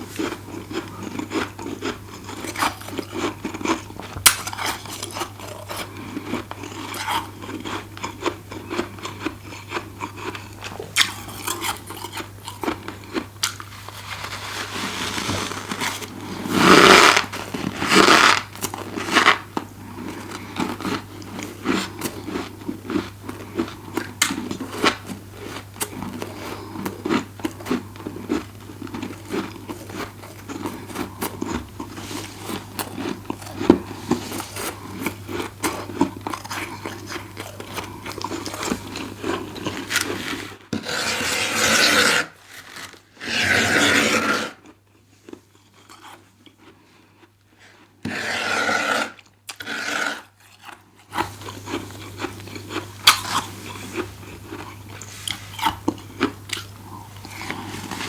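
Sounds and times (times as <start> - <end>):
crunching of frost being chewed: 0.0 - 58.0.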